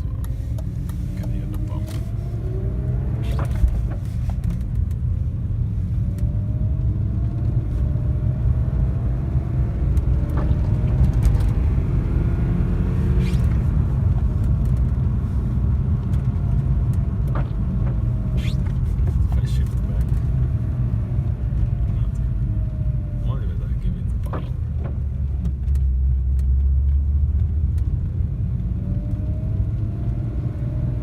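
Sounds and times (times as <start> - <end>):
car engine accelerating: 0.0 - 31.0
low road rumble: 0.0 - 31.0.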